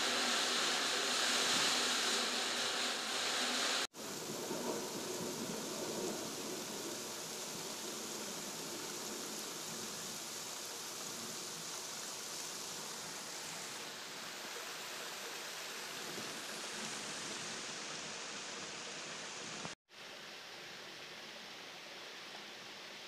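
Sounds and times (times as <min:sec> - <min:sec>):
rain falling on foliage: 0:00.0 - 0:23.0.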